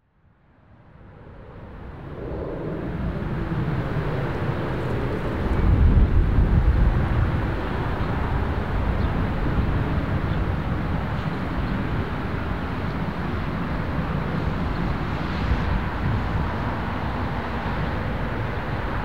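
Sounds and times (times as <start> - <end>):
jet engines rumbling at low power: 0.5 - 19.0.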